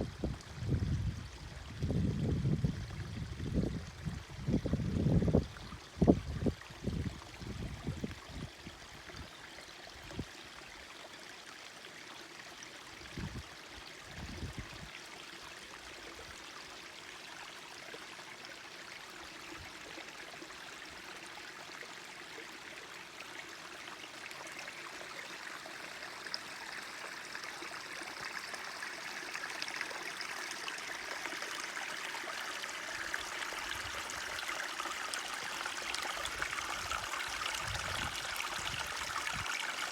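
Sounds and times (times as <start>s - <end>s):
forest stream babbling: 0.0s - 39.9s.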